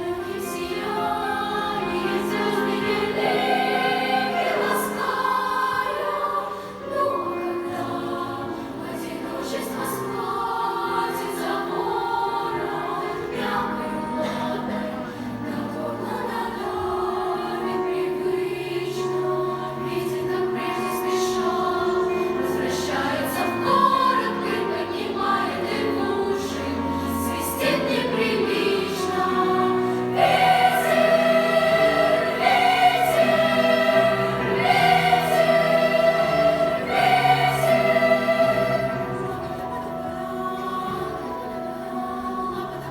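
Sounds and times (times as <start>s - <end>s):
choir singing: 0.0s - 42.9s.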